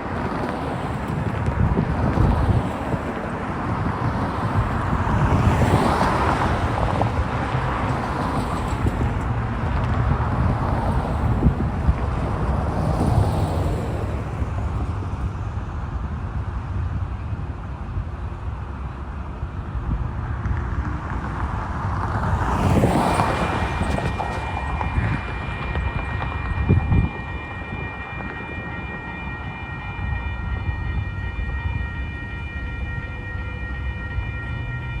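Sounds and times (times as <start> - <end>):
cars passing: 0.0 - 35.0
wind buffeting microphone: 0.0 - 35.0.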